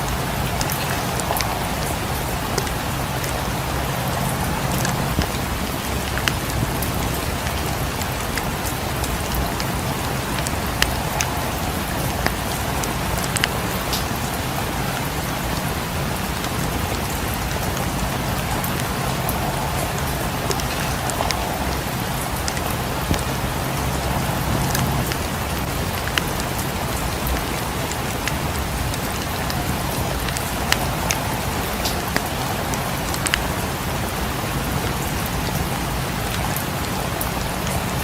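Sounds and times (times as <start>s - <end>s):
rain on roof and windows: 0.0s - 38.0s
wood fire crackling: 0.0s - 38.0s.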